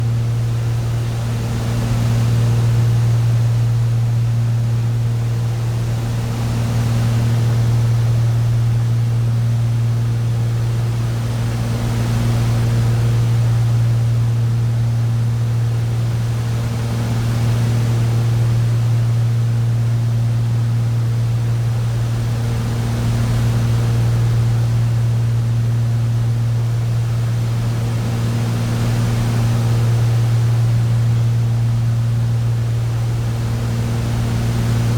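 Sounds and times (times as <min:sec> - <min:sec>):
boat engine humming: 0:00.0 - 0:34.9.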